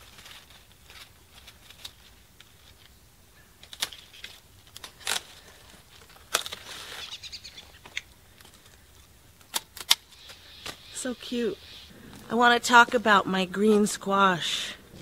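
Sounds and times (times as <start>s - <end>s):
rustle of vines and leaves: 0.0s - 15.0s.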